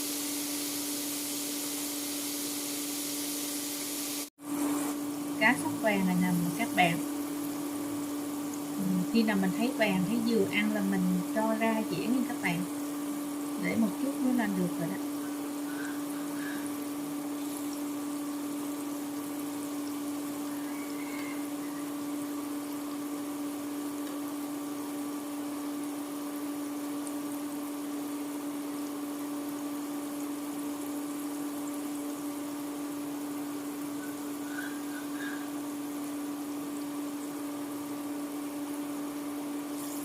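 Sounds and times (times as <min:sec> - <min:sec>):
fish frying in hot oil: 0:00.0 - 0:40.0.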